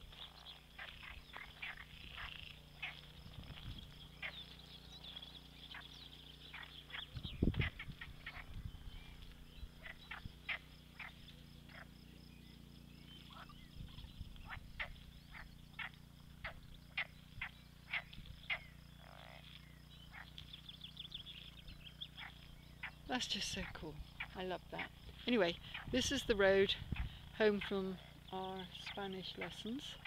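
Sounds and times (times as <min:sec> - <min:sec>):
frogs calling: 0:00.0 - 0:30.0.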